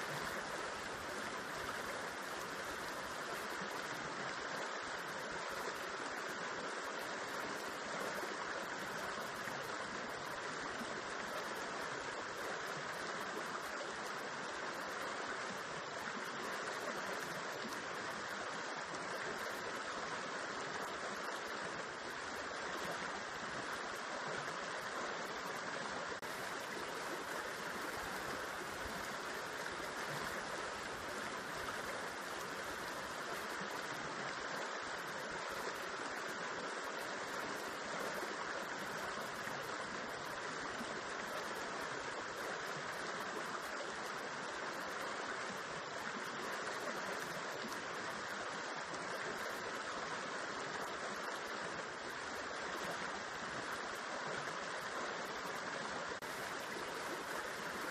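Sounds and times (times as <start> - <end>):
river water rushing over rocks: 0.0 - 57.9.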